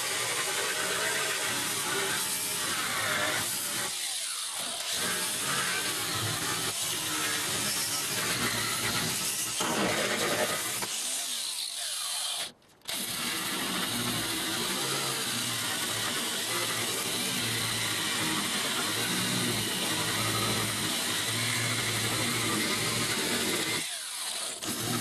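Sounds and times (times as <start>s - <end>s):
power tool running: 0.0s - 25.0s.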